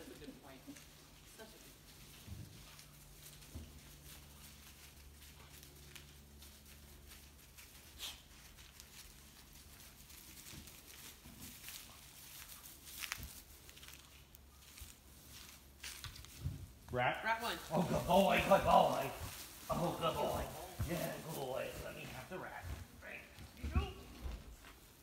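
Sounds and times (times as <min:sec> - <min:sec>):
straw rustling and crackling: 0:00.1 - 0:23.3.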